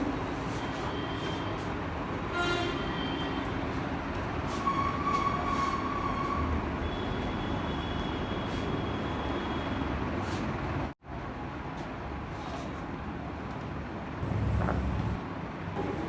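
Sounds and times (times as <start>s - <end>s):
steady vehicle noise: 0.0s - 16.0s.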